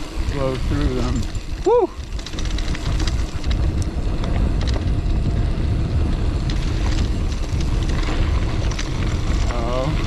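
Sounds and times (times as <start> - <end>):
bike clicks and rattles: 0.0 - 10.0
tyres rolling on dirt: 0.0 - 10.0
wind rushing over microphone: 0.0 - 10.0.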